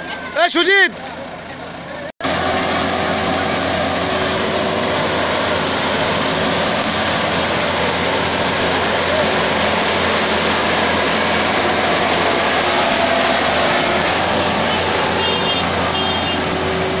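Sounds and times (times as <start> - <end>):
harvester engine running: 1.1 - 17.0.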